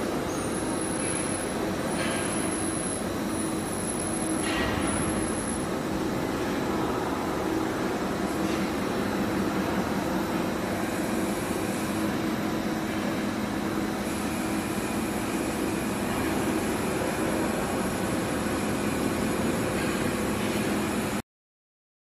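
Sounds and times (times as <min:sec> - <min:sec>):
machine mechanical hum: 0:00.0 - 0:21.2.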